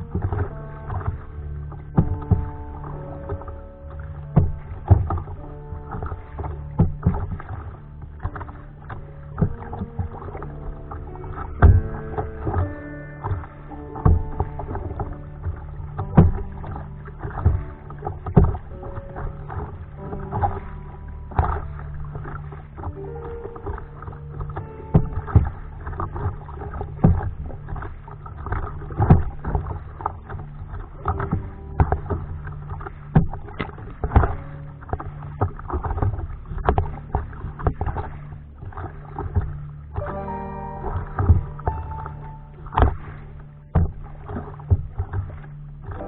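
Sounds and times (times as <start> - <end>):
paddle strokes splashing: 0.0 - 46.0
sloshing water: 0.0 - 46.0
steady low hum: 0.0 - 46.0
steady low rumble: 0.0 - 46.0.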